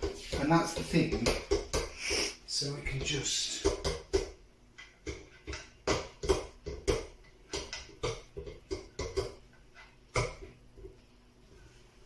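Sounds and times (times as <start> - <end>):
table feet knocking on tiles: 0.0 - 11.0.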